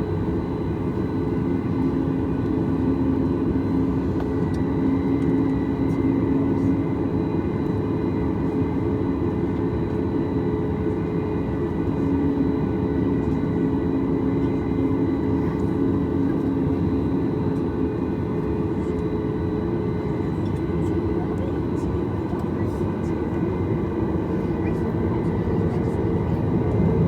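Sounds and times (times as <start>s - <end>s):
airplane cabin drone: 0.0s - 27.0s
engine hums and whines: 0.0s - 27.0s.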